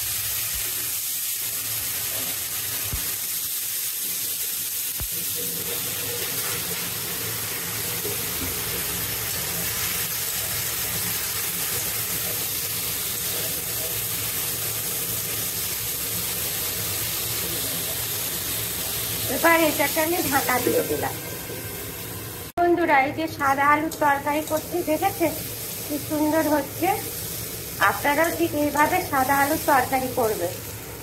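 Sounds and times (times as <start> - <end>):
potato sticks sizzling in oil: 0.0 - 31.0.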